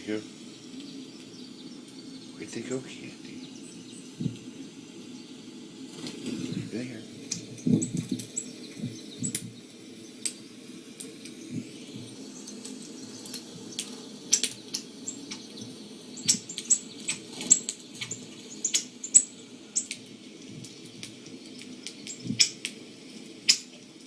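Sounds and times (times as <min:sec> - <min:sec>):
low steady hum: 0:00.0 - 0:24.0
small birds chirping: 0:00.0 - 0:24.0.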